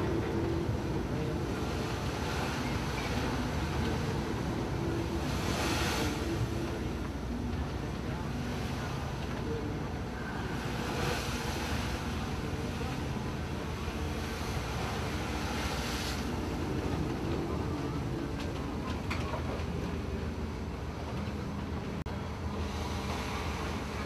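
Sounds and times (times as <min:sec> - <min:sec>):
rushing water: 0:00.0 - 0:20.9, 0:21.9 - 0:24.0
ship engine droning: 0:00.0 - 0:24.0.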